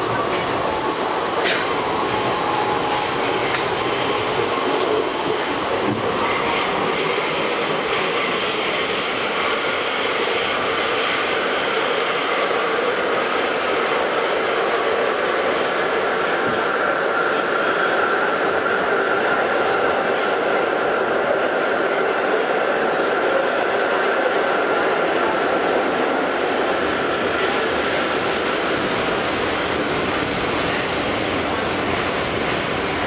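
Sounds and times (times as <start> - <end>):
subway wheels rumbling on rail: 0.0 - 33.0.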